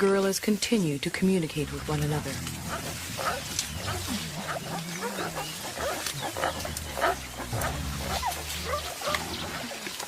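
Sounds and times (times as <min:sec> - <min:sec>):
gorillas rumbling calls: 0:01.4 - 0:10.0.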